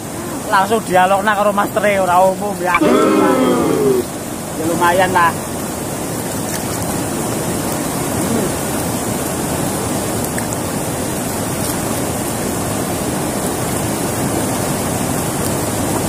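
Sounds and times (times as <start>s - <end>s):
river rushing over rapids: 0.0s - 16.0s.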